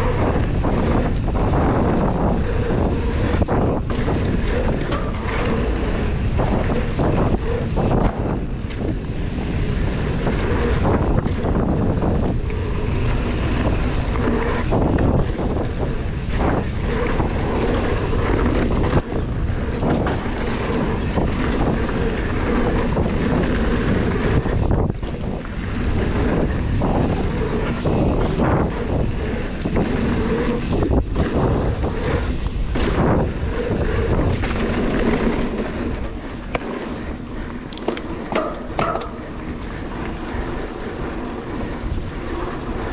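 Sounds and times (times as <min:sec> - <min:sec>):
bike knocks and rattles: 0:00.0 - 0:42.1
bike tyres crunching on dirt: 0:00.0 - 0:42.9
wind buffeting microphone: 0:00.0 - 0:42.9.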